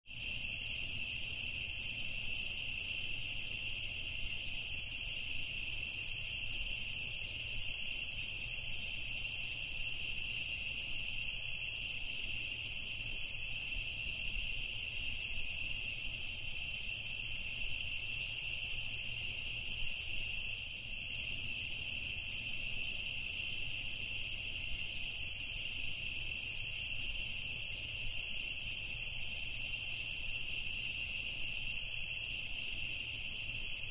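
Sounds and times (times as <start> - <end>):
crickets and insects trilling: 0.1 - 33.9.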